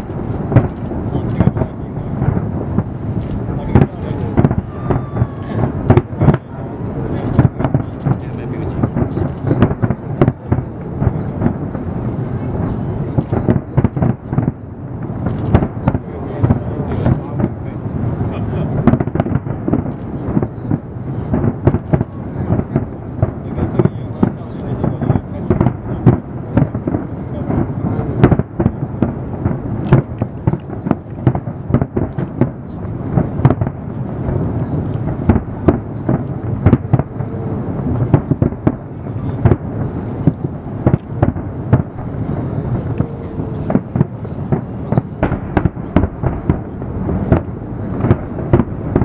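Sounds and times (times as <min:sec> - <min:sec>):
fireworks sharp bangs: 0:00.0 - 0:49.0
low thunder-like rumble: 0:00.0 - 0:49.0.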